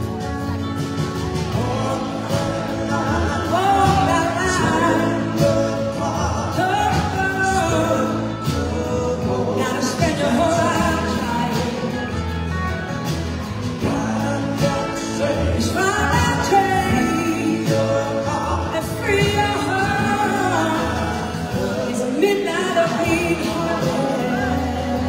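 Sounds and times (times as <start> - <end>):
electric guitar: 0.0 - 25.0
live soul-blues band: 0.0 - 25.0
woman singing lead: 0.0 - 25.0.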